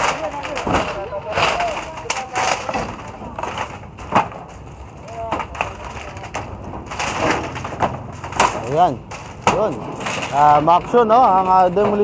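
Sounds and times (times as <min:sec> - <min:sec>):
loose boards rattling and scraping: 0:00.0 - 0:12.0
wood cracking: 0:00.0 - 0:12.0.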